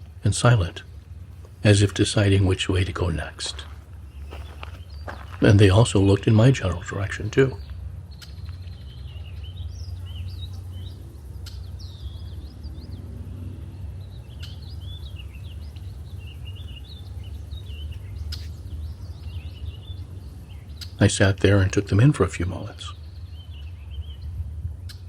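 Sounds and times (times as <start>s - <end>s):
blackbirds chirping and calling: 0.0s - 25.0s
continuous low rumble: 0.0s - 25.0s.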